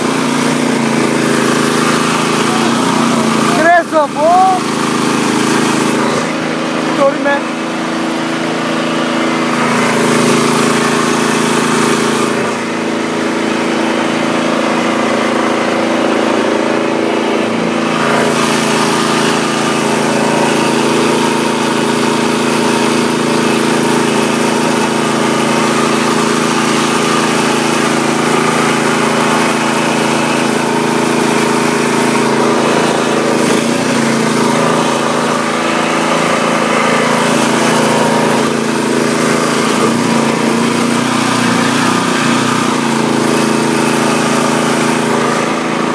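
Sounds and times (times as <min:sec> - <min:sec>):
outboard boat motor running: 0:00.0 - 0:45.9.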